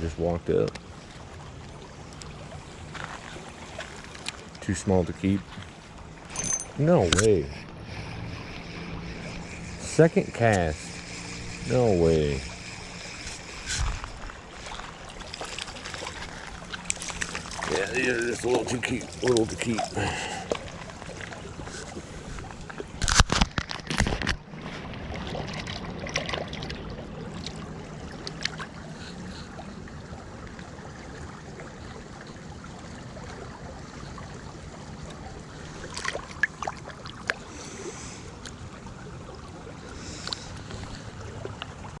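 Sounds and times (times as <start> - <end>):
creek water running: 0.0 - 42.0.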